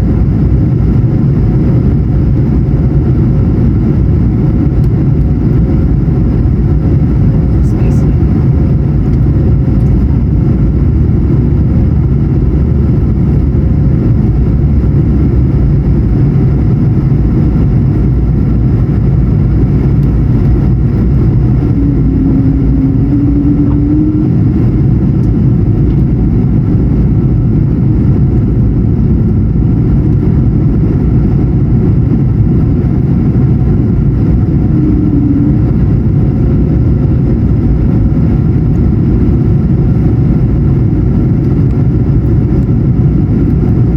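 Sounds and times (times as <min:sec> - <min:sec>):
airplane cabin roar: 0:00.0 - 0:43.9
faint hums: 0:00.0 - 0:43.9.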